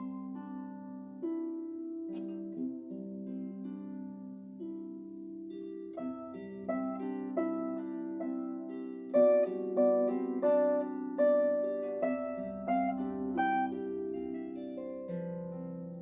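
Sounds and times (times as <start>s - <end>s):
solo harp melody: 0.0s - 16.0s.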